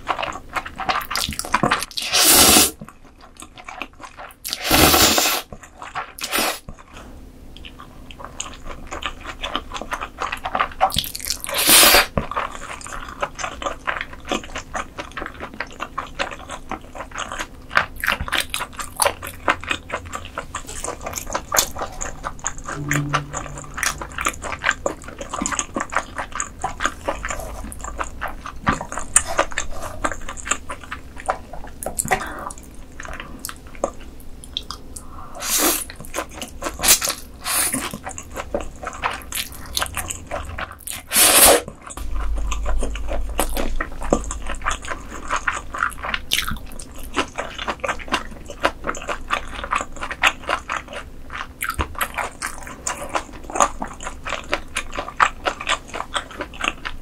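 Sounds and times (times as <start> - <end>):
chewing and biting: 0.0 - 2.1, 2.8 - 57.0.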